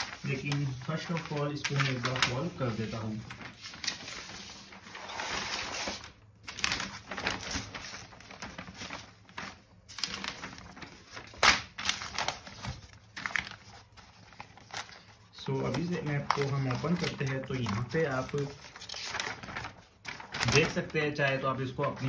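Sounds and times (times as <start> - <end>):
paper map rustling and crackling: 0.0 - 22.0.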